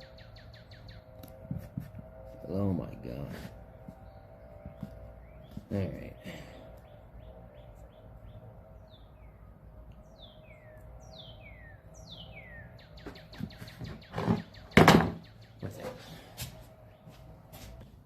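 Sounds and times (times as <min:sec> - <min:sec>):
bird chirping: 0:00.0 - 0:02.2, 0:03.9 - 0:17.3.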